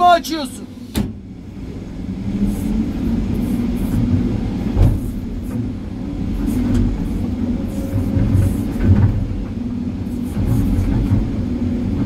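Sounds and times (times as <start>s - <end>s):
excavator diesel engine working: 0.0s - 12.0s.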